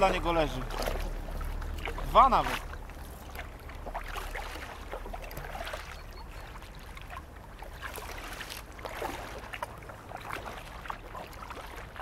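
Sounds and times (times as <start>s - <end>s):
low steady rumble: 0.0s - 12.0s
paddle splashing water: 0.0s - 12.0s.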